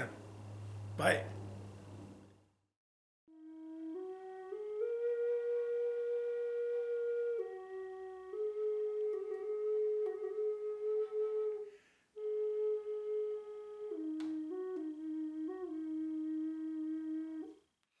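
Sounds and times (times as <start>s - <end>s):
slow flute-like melody: 3.3s - 17.7s.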